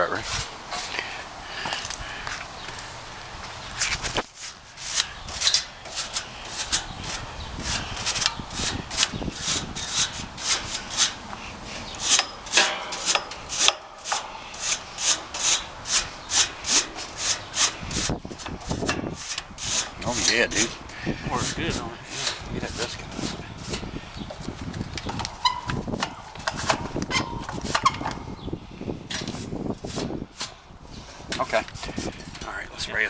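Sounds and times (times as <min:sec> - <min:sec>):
tool scraping metal fins: 0:00.0 - 0:01.2, 0:03.8 - 0:24.8, 0:25.4 - 0:28.2, 0:29.1 - 0:32.6.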